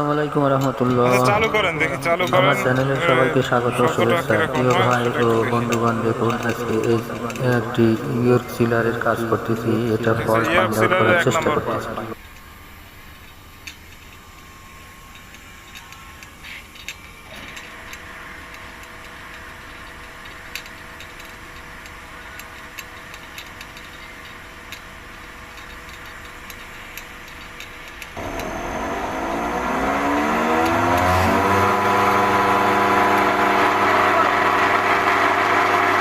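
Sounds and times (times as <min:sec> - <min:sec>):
compressor whine: 0:00.0 - 0:36.0
faint steady hum: 0:00.0 - 0:36.0.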